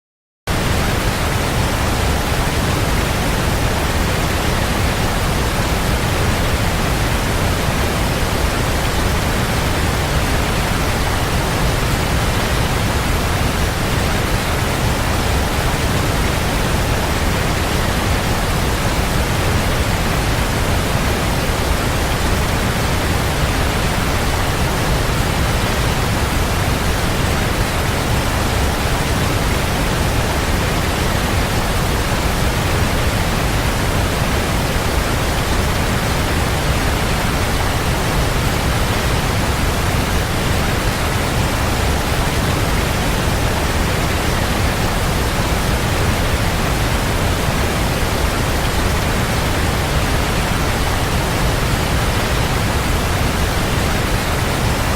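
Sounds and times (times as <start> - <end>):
waterfall rushing: 0.5 - 54.9.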